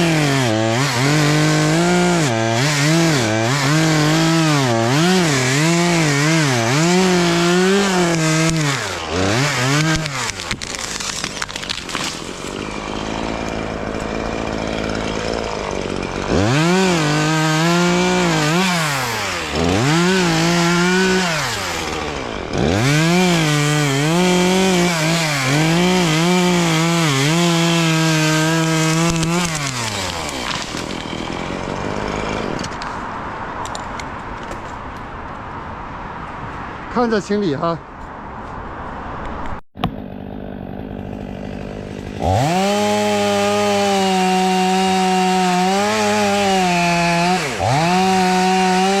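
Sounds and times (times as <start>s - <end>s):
chainsaw cutting wood: 0.0s - 33.0s, 39.8s - 49.0s.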